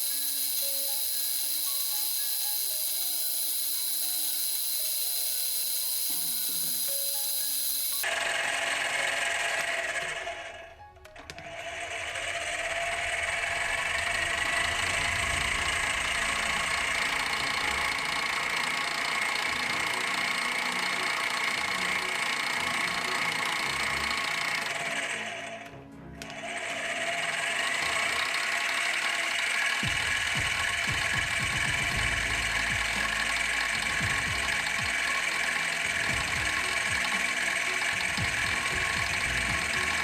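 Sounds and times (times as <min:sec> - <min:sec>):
machine tool cutting metal with whine: 0:00.0 - 0:10.6, 0:11.9 - 0:25.6, 0:26.3 - 0:40.0.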